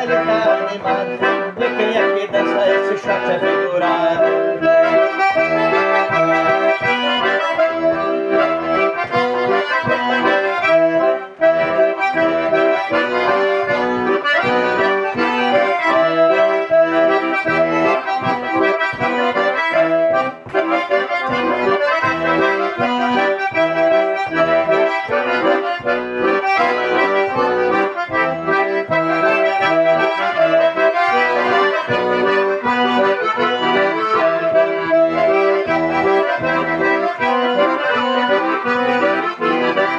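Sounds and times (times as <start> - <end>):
accordions playing: 0.0 - 39.9.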